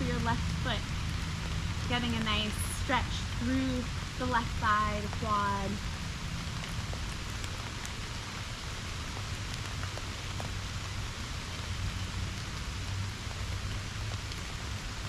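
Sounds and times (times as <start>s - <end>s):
rain drop ticks: 0.0s - 15.0s
steady rain hiss: 0.0s - 15.0s.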